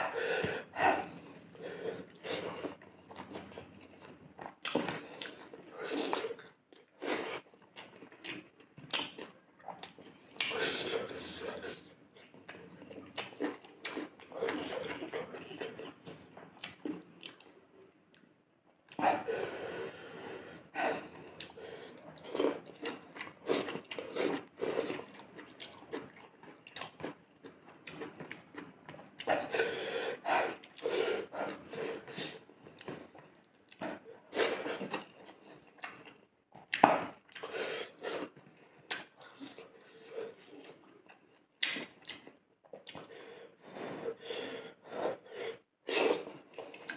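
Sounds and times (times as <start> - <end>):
person chewing food: 0.0 - 18.3, 20.9 - 44.1, 45.5 - 46.9.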